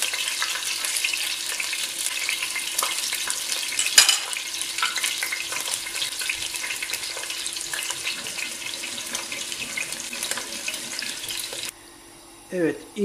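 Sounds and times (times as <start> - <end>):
meat sizzling in hot oil: 0.0 - 11.7.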